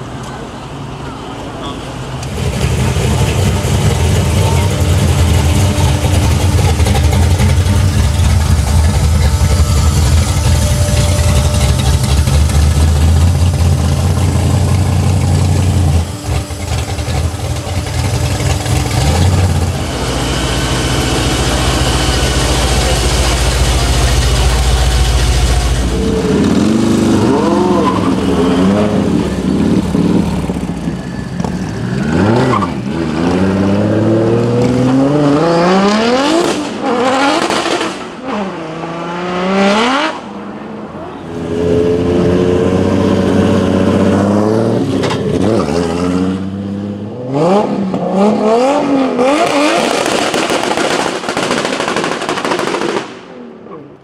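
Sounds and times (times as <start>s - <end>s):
car engine revving hard: 2.3s - 30.7s, 32.0s - 40.3s, 41.3s - 51.4s.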